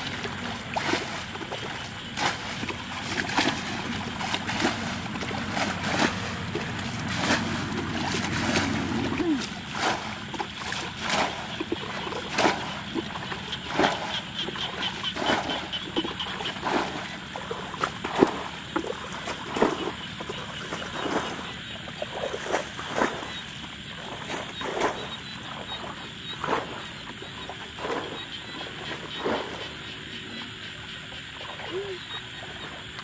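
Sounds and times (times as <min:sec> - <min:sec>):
water splashing from bucket: 0:00.0 - 0:29.9.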